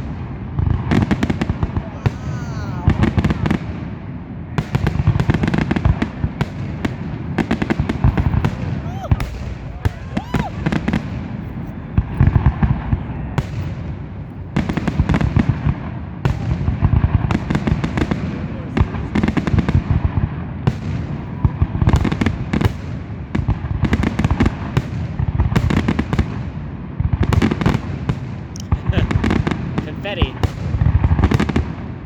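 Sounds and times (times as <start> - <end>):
fireworks booming and cracking: 0.0 - 32.0.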